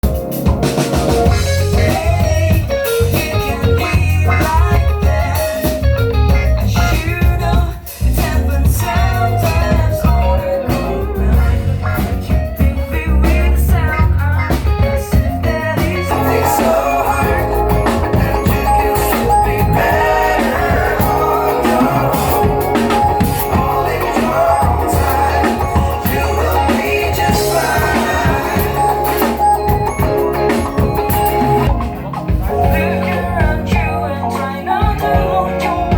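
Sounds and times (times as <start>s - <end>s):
bass guitar: 0.0s - 35.9s
drum kit: 0.0s - 35.9s
guitar: 0.0s - 35.9s.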